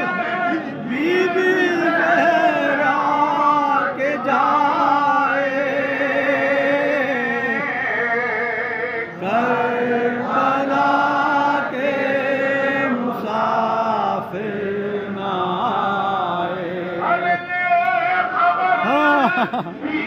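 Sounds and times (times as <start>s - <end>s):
voices chanting a lament: 0.0s - 20.0s.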